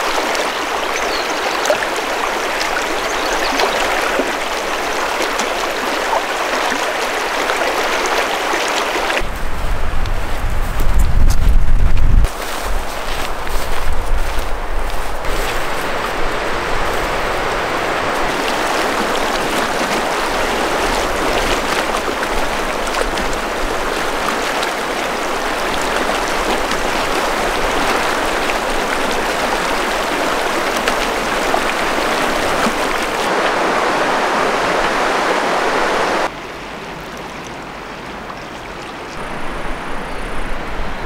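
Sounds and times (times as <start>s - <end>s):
river rushing over rocks: 0.0s - 9.3s, 15.2s - 41.0s.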